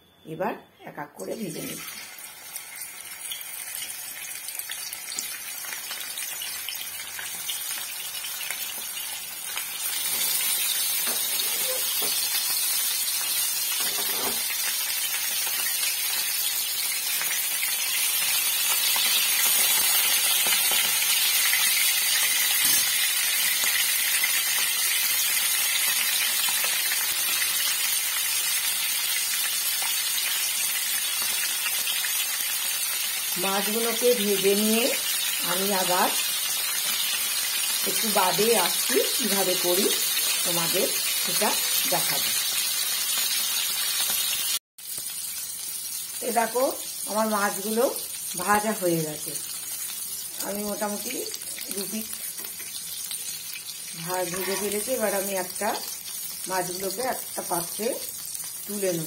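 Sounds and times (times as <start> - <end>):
fish sizzling in hot oil: 1.6 - 59.0.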